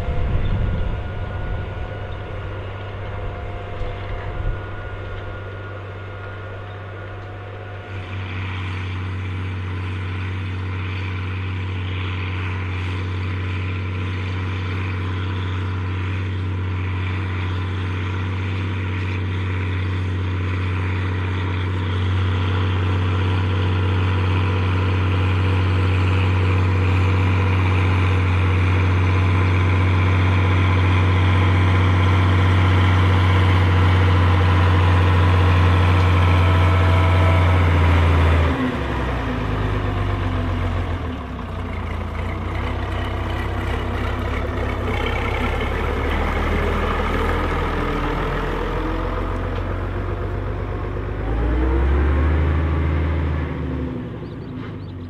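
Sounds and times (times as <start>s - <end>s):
tractor diesel engine drone: 0.0s - 55.0s.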